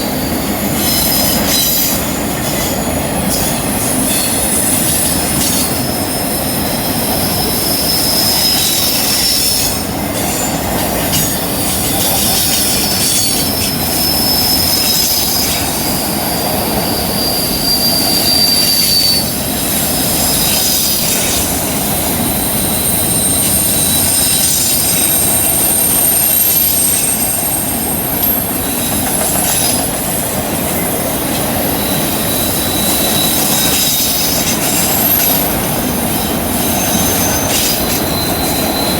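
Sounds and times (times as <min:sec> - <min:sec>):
rumble of wheels on track: 0:00.0 - 0:38.9
train wheels squealing on rail: 0:00.0 - 0:38.9.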